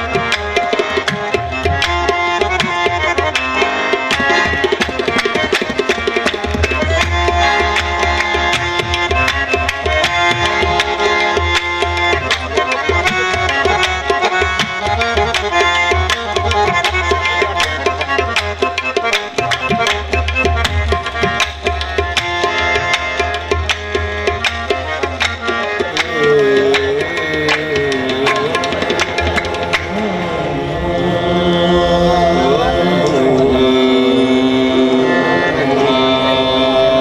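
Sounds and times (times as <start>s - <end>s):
fast tabla strokes: 0.0s - 30.3s
harmonium melody: 0.0s - 37.0s.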